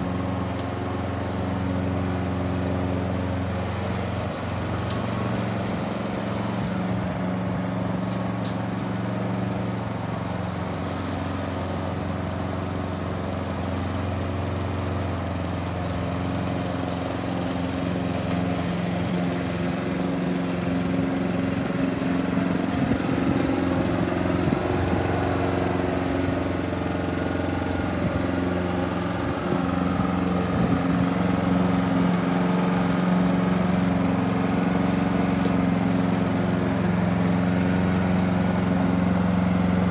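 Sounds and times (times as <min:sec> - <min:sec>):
lawn mower running: 0:00.0 - 0:39.9.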